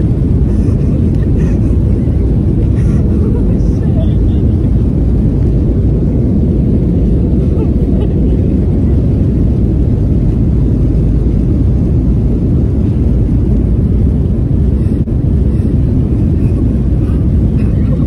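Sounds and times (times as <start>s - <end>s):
airliner engines roaring: 0.0s - 18.0s.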